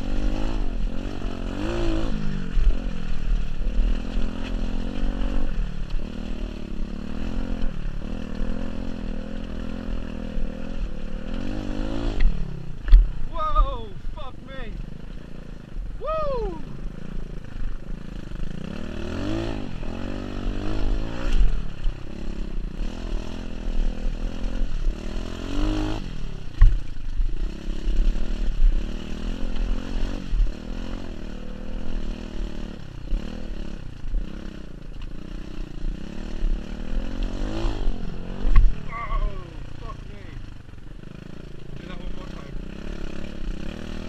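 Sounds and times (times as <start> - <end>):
small motorbike engine revving: 0.0 - 15.6, 16.3 - 44.0.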